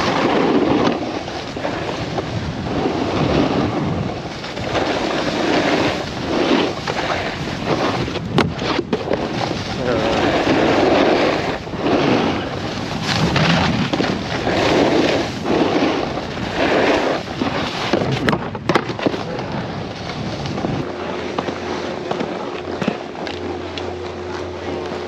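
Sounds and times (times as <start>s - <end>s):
wind rush on microphone: 0.0s - 20.9s
snowboard edges scraping snow: 0.0s - 25.0s.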